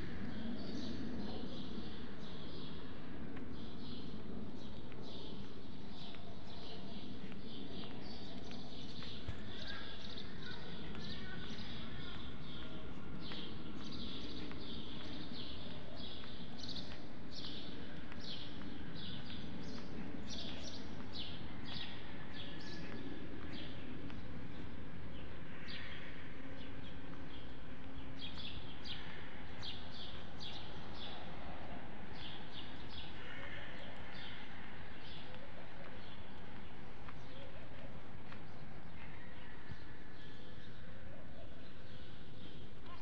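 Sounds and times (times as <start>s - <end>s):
low street rumble: 0.0s - 43.0s
small birds chirping: 0.1s - 43.0s.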